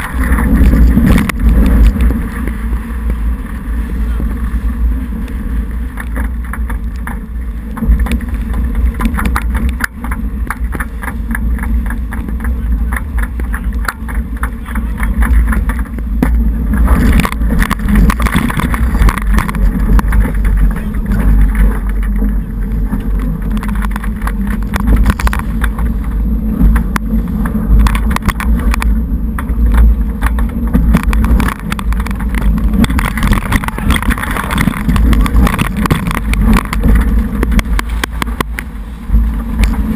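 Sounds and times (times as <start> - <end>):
small crackles and knocks: 0.0 - 39.9
water rushing past boat hull: 0.0 - 39.9
wind buffeting microphone: 0.0 - 39.9.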